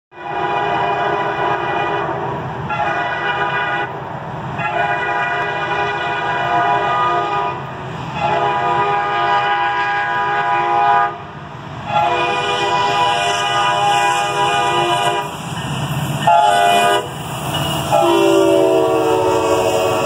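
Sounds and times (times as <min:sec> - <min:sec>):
low train rumble: 0:00.1 - 0:20.0
locomotive air horn blasts: 0:00.2 - 0:04.0, 0:04.6 - 0:11.3, 0:11.9 - 0:15.3, 0:16.2 - 0:20.0.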